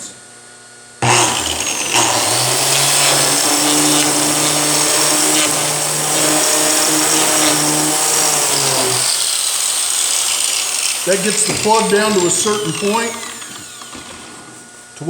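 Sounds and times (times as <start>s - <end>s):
electric grinder humming: 1.0s - 14.7s.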